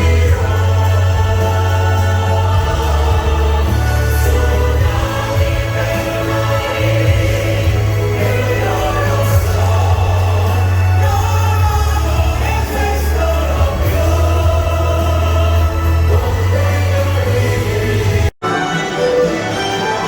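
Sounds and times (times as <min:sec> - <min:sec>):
background music bass line: 0:00.0 - 0:18.3.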